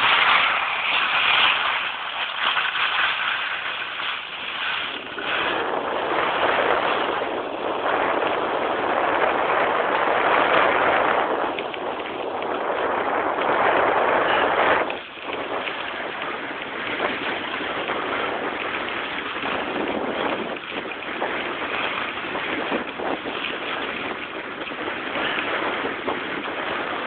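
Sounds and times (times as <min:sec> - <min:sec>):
air rushing past microphone: 0:00.0 - 0:27.0
skis sliding over packed snow: 0:00.0 - 0:27.0.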